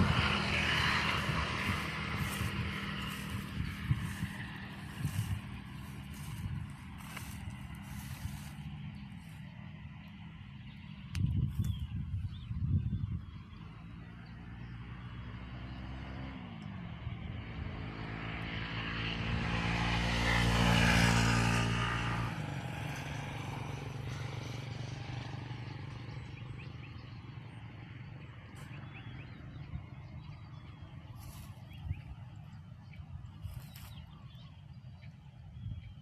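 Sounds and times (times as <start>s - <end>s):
aircraft engine passing overhead: 0.0s - 36.0s.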